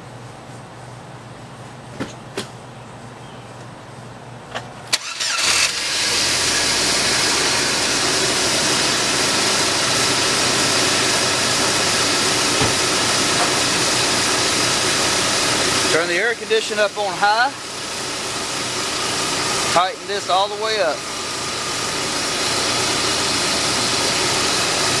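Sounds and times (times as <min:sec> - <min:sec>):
car engine cranking and idling: 0:04.8 - 0:25.0.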